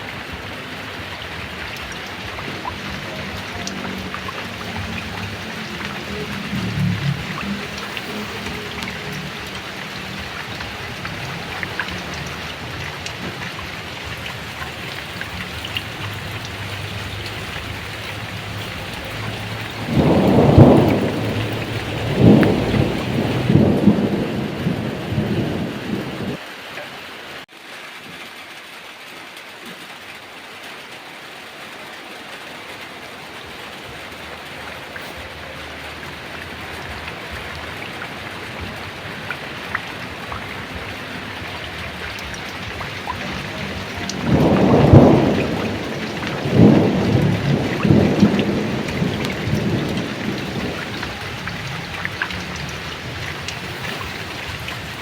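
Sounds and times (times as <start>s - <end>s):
thunder rumbling: 0.0s - 26.4s, 32.8s - 55.0s
heavy rain pouring: 0.0s - 55.0s.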